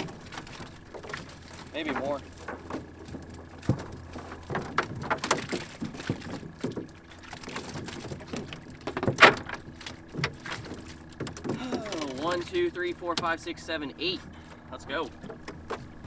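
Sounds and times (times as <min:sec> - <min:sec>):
fish slapping on boat deck: 0:00.0 - 0:13.6, 0:14.3 - 0:16.0.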